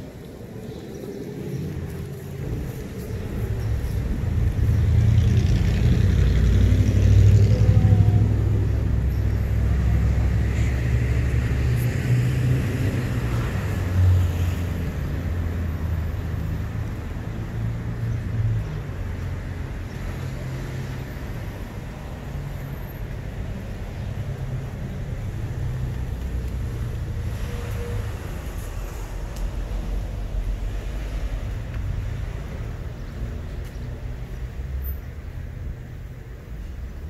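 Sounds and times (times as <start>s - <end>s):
vehicle engine rumble: 0.0s - 37.0s.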